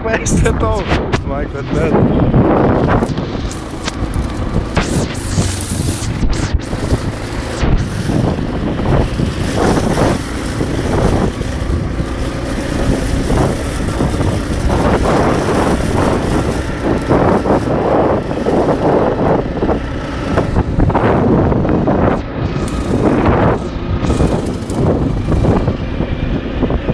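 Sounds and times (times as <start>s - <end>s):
atv engine revving: 0.0s - 26.9s
wind buffeting microphone: 0.0s - 26.9s.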